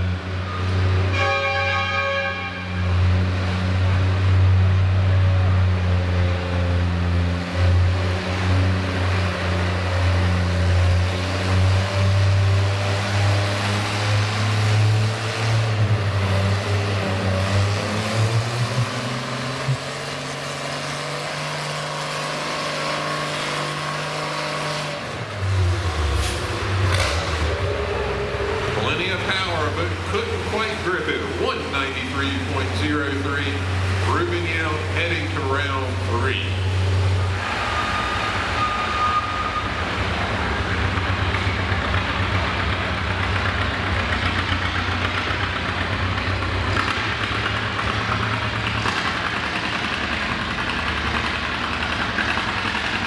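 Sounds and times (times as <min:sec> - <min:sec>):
tractor engine running: 0:02.9 - 0:53.0.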